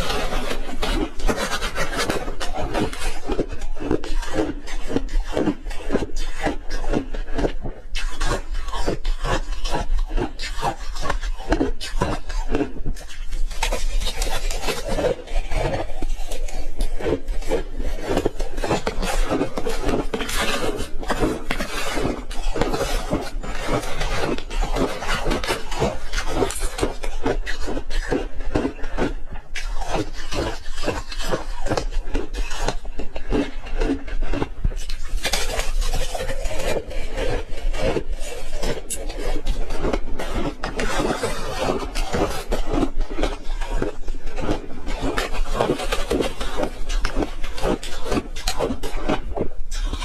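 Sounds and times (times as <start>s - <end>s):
person chewing ice: 0.0s - 50.0s.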